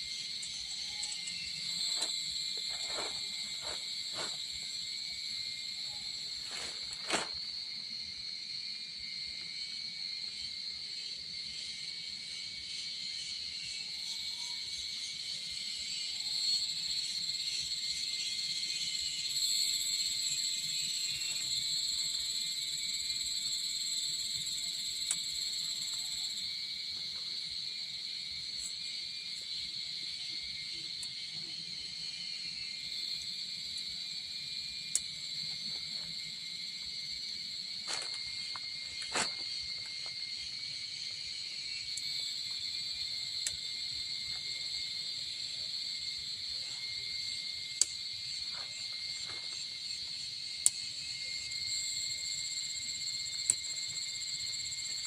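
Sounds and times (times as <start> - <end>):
insects calling: 0.0 - 55.0.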